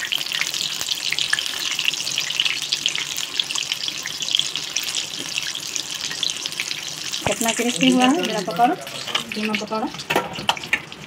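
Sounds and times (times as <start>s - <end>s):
deep-frying crackling sizzle: 0.0s - 11.0s.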